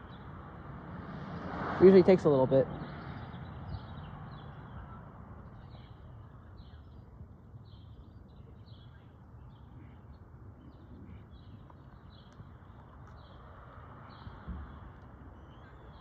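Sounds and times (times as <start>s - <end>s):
small birds chirping: 1.8s - 16.0s.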